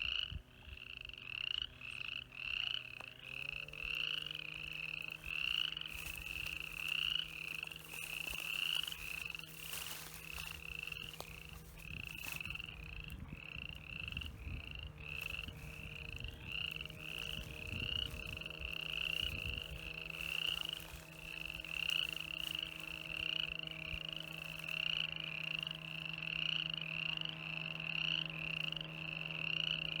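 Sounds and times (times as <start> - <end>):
frog calling: 0.0 - 30.0
steady low hum: 0.0 - 30.0.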